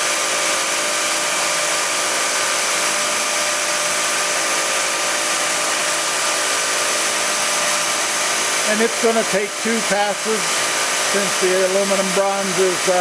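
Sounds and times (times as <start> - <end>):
machine tool motor hum and hiss: 0.0 - 13.0.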